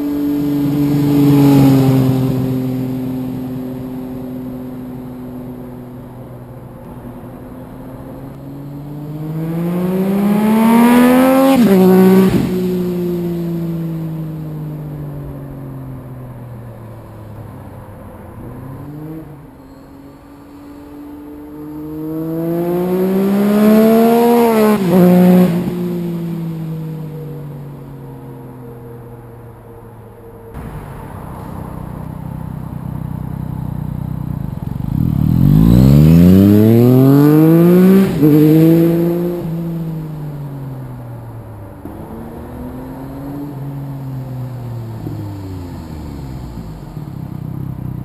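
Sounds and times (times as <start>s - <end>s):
motorcycle engine revving: 0.0s - 15.3s, 18.4s - 27.9s, 30.6s - 48.0s.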